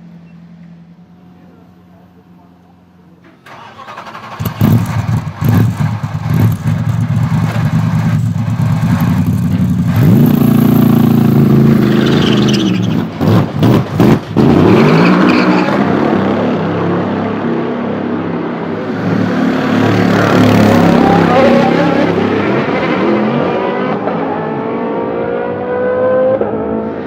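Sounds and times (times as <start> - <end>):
race car engine at full throttle: 3.4 - 27.0.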